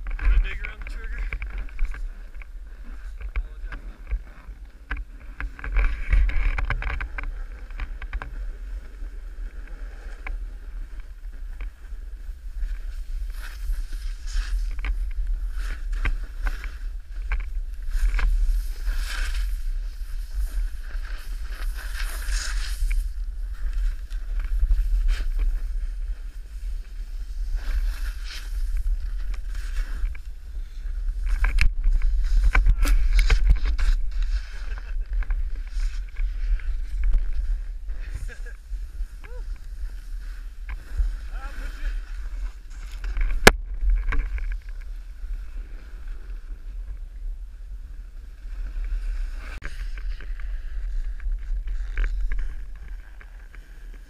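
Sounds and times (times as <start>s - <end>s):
snowboard scraping over snow: 0.0s - 43.5s, 44.1s - 54.0s.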